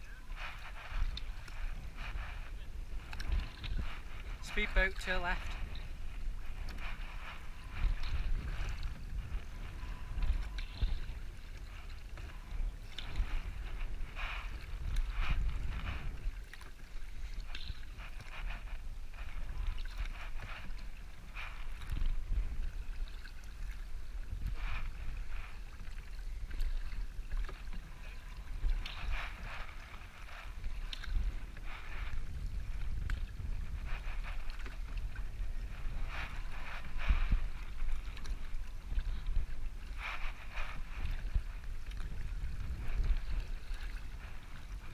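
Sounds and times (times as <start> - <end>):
water lapping against canoe: 0.0 - 44.9
wind rumble on microphone: 0.0 - 44.9.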